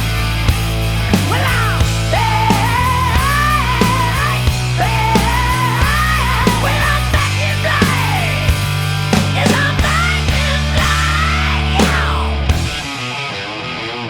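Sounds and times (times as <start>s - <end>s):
heavy rock music: 0.0s - 14.0s.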